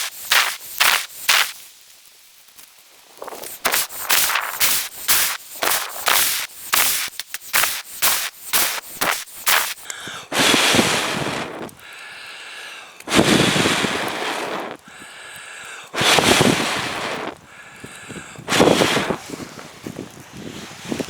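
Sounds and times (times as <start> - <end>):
puffs of breath blowing on coal: 0.0 - 1.6, 3.2 - 21.0.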